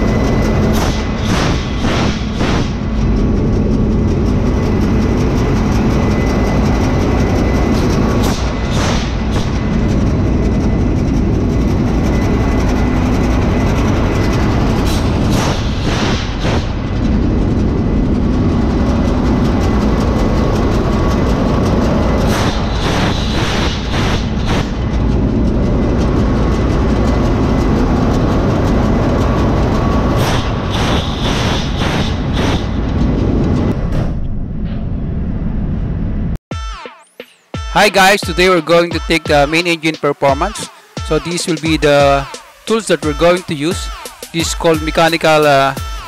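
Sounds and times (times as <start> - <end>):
diesel engine drone: 0.0 - 36.4, 37.8 - 46.0.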